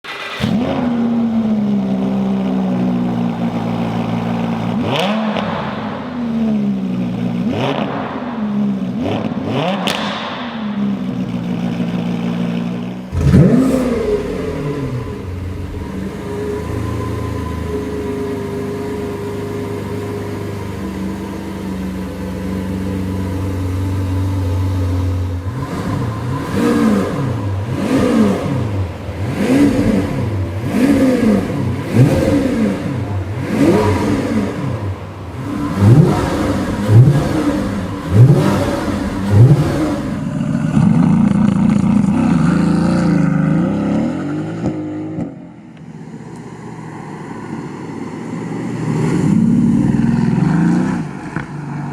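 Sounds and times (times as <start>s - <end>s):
sports car engine revving: 0.1s - 47.6s, 48.6s - 51.9s.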